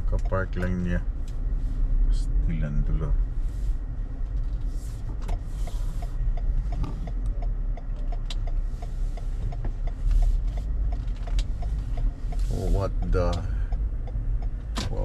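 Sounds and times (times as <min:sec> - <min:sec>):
car engine and road rumble: 0:00.0 - 0:15.0
turn signal ticking: 0:00.0 - 0:15.0.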